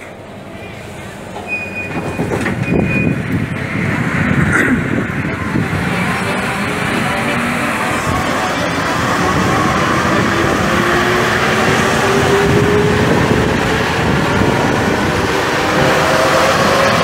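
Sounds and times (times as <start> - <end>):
metro train running: 0.0 - 17.0.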